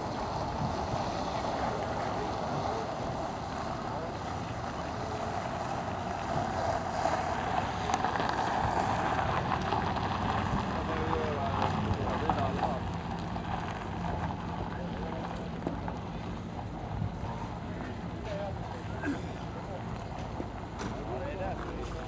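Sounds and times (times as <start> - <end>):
background voices: 0.0 - 22.0
car engine running: 0.0 - 22.0
tyres crunching over gravel: 0.0 - 22.0.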